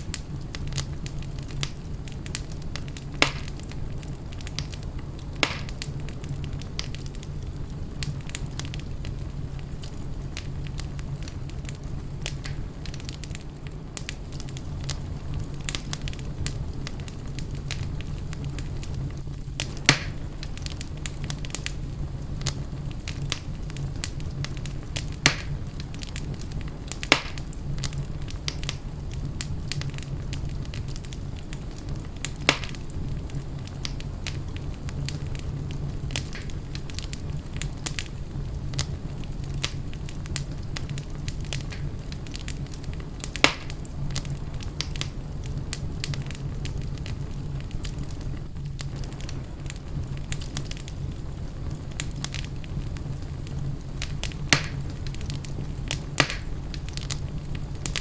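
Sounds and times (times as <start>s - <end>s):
sharp fire pops: 0.0s - 58.0s
wood fire crackling: 0.0s - 58.0s.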